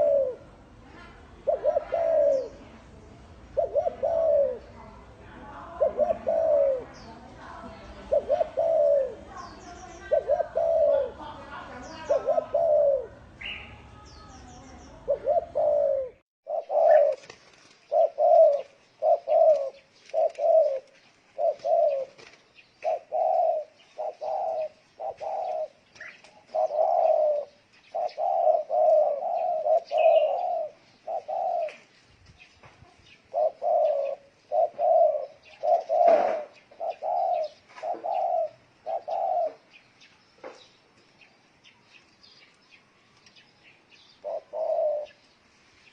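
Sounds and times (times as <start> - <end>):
dove cooing: 0.0 - 32.0, 32.9 - 39.8, 44.0 - 45.2.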